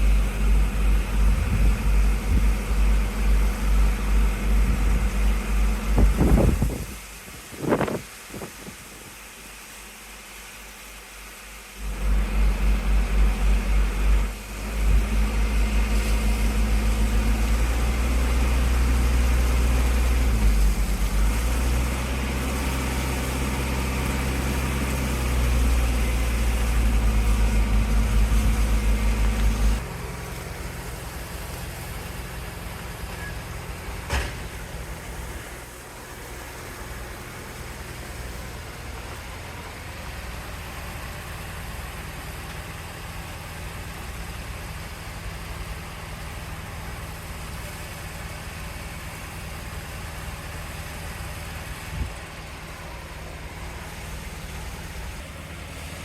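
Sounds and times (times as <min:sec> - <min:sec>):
truck engine throbbing: 0:00.0 - 0:08.9, 0:11.6 - 0:56.0.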